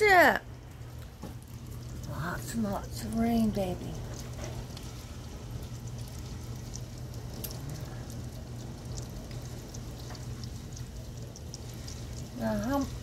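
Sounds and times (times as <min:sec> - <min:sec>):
rain pattering on window glass: 0:00.0 - 0:13.0
steady low hum: 0:00.0 - 0:13.0.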